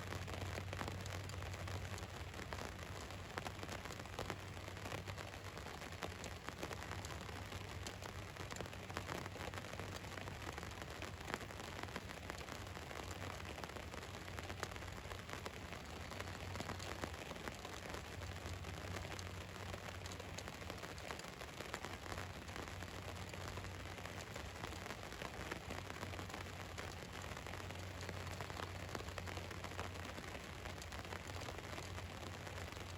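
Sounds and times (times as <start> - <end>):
rain on van roof: 0.0 - 32.9.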